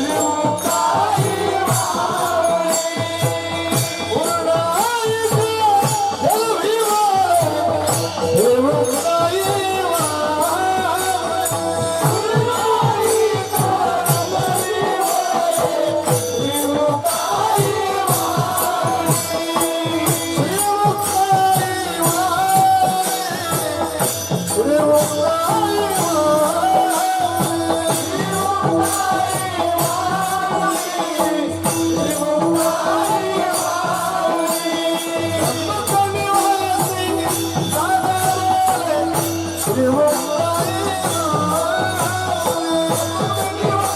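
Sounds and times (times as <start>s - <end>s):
fast hand drumming: 0.0s - 43.9s
jingling percussion: 0.0s - 43.9s
man singing devotional song: 0.0s - 43.9s.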